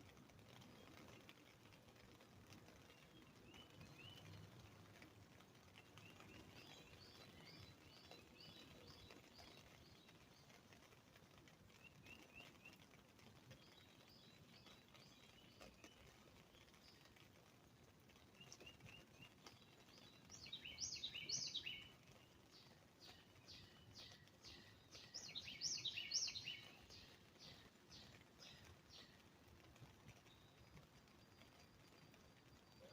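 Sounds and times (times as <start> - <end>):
songbirds chirping: 0.0 - 32.9.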